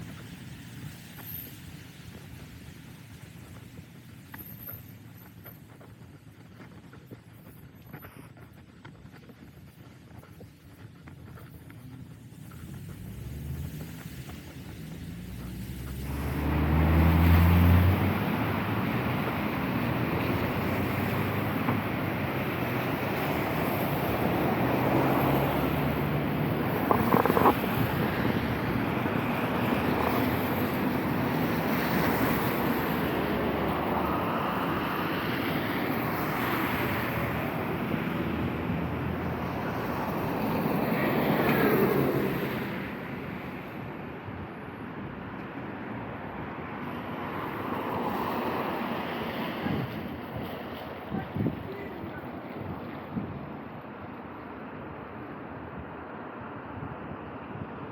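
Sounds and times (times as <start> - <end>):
tyres hissing on wet road: 0.0 - 5.5, 12.3 - 44.4, 45.1 - 54.2.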